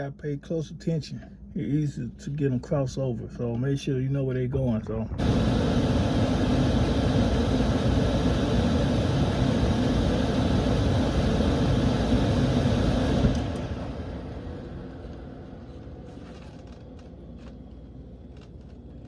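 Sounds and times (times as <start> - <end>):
furnace air rushing with motor hum: 0.0 - 19.0.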